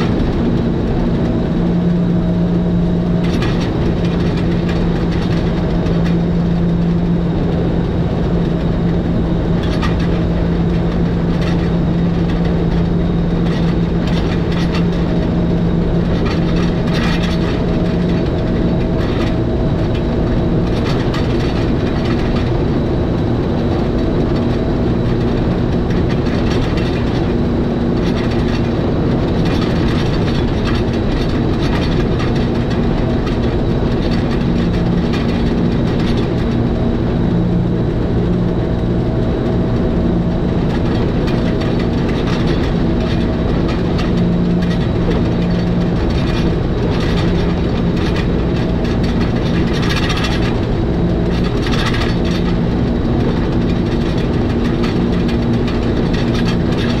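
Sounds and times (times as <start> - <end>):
electric train running on rails: 0.0 - 57.0
motor hum: 0.0 - 57.0.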